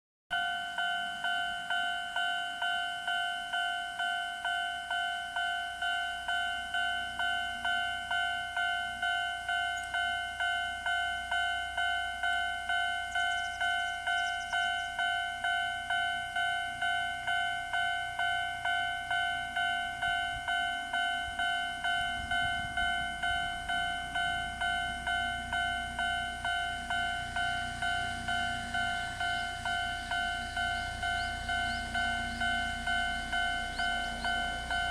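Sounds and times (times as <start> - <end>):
level crossing alarm dinging: 0.3 - 34.9
low train rumble: 0.3 - 34.9.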